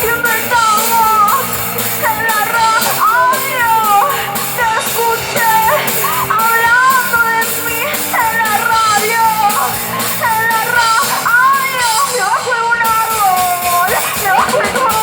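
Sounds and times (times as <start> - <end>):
person singing: 0.0 - 15.0
punk rock band playing live: 0.0 - 15.0
steady drum beat: 0.0 - 15.0.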